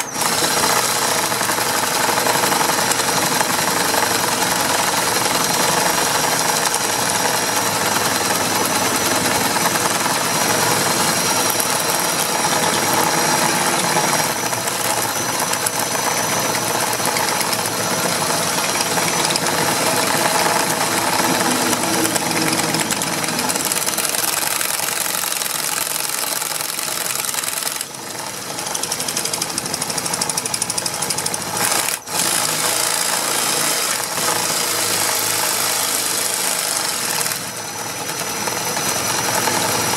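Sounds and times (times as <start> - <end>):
impact wrench rattling: 0.0 - 39.9.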